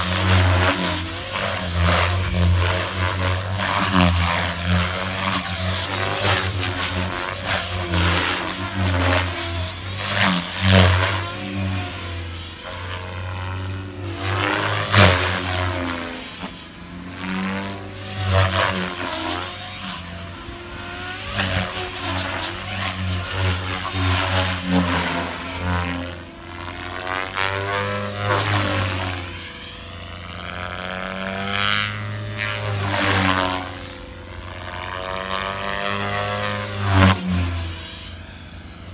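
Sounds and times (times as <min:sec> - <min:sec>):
high motor whine: 0:00.0 - 0:38.9
rc helicopter rotor drone: 0:00.0 - 0:38.9.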